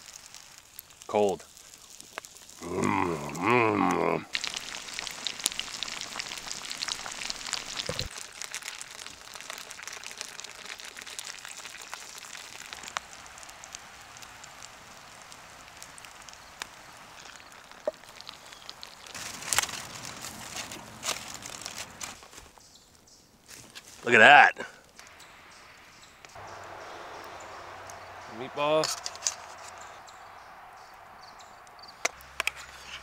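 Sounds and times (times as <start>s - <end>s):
food sizzling and crackling: 0.0s - 22.6s, 24.9s - 33.0s.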